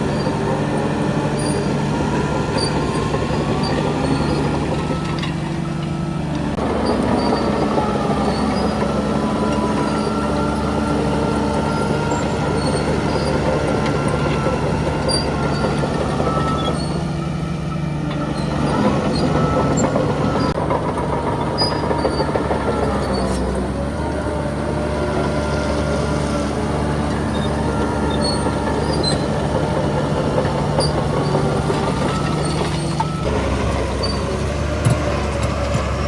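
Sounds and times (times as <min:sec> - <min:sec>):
steel tracks squealing: 0:00.0 - 0:34.7
diesel engine running: 0:00.0 - 0:36.0.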